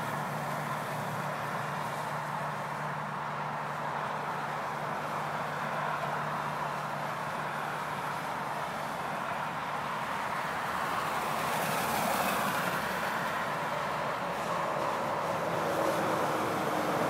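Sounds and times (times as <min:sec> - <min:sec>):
tyres hissing on highway: 0:00.0 - 0:17.0.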